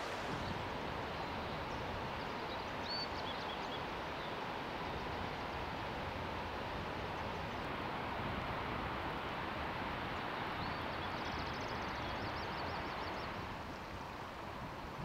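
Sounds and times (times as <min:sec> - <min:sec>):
water: 0:00.0 - 0:15.0
wind: 0:00.0 - 0:15.0.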